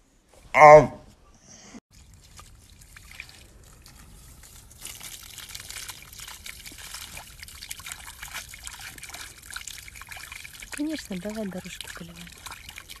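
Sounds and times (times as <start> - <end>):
water splashing onto bricks: 1.9 - 13.0.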